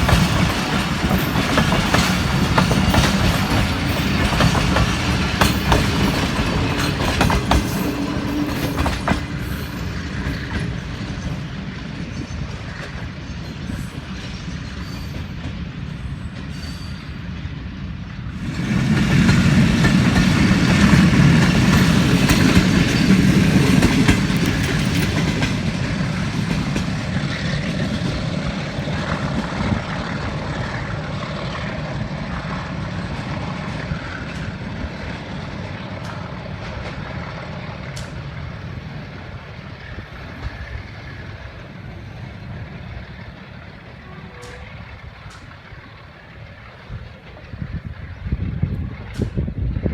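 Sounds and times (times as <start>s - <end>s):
train wheels clicking on rails: 0.0s - 49.9s.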